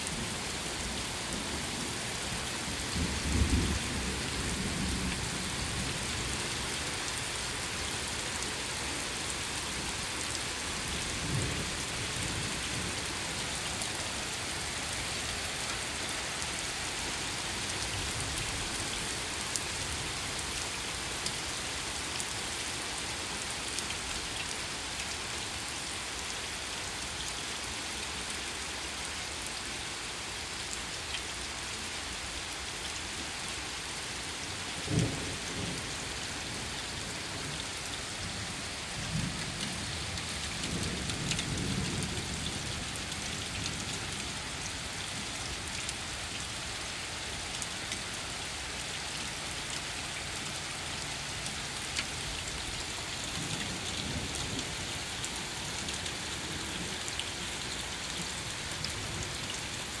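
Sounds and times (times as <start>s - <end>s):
rain on pavement and lawn: 0.0s - 60.0s.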